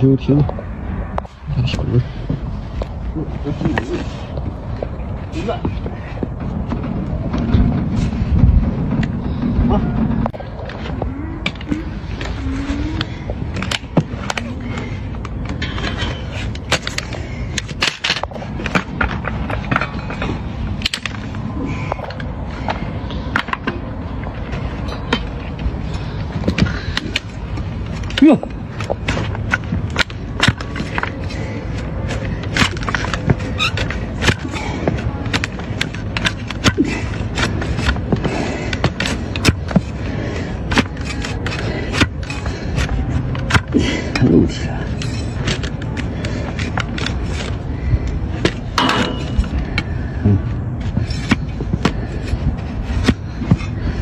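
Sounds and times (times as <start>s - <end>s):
steady background noise: 0.0s - 54.0s
steady low rumble: 0.0s - 54.0s
hand tools paring hoof: 9.8s - 54.0s.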